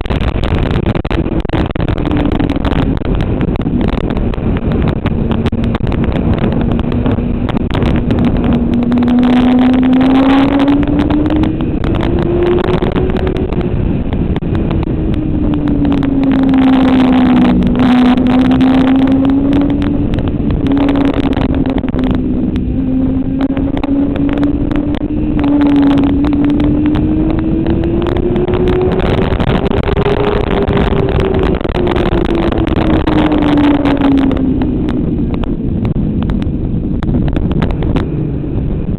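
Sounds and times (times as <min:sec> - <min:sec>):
motorcycle engine at speed: 0:00.0 - 0:38.9
rushing wind noise: 0:00.0 - 0:38.9.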